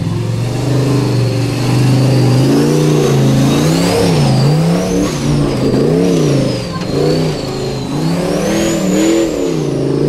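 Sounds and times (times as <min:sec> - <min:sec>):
buggy engine revving: 0:00.0 - 0:10.0
high engine whine: 0:00.0 - 0:10.0.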